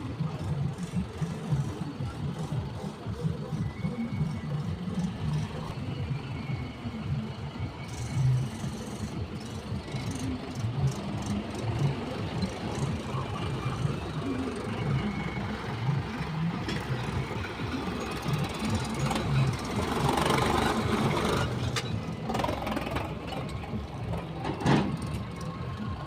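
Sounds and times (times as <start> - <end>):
diesel engine throbbing: 0.0 - 26.0.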